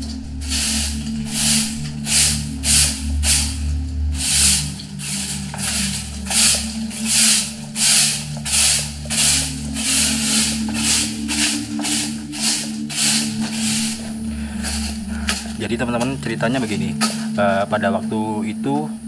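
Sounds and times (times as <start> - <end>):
broom sweeping tile floor: 0.0 - 17.6.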